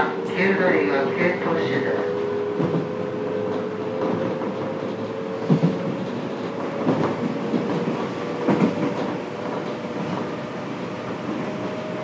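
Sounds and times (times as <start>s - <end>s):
subway car rumble: 0.0s - 12.0s.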